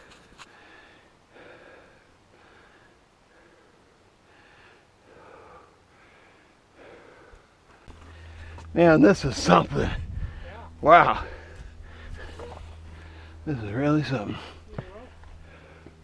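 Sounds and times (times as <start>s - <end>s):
person breathing hard: 0.5s - 8.7s, 9.9s - 13.5s, 14.3s - 16.0s.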